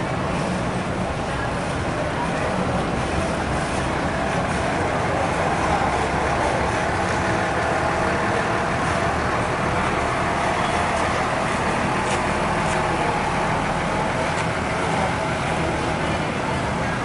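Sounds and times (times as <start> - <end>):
large bus engine running: 0.0 - 17.0
road traffic noise: 0.0 - 17.0.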